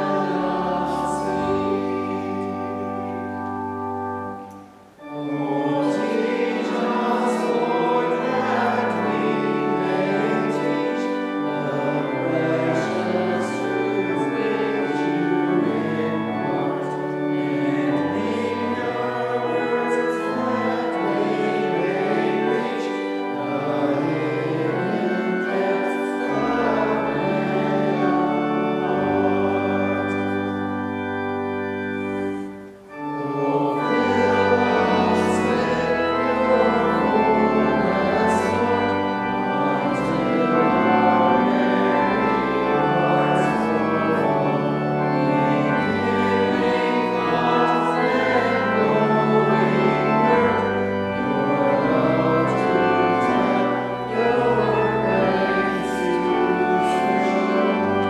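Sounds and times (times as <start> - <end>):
organ: 0.0 - 58.0
voices singing chords: 0.0 - 58.0.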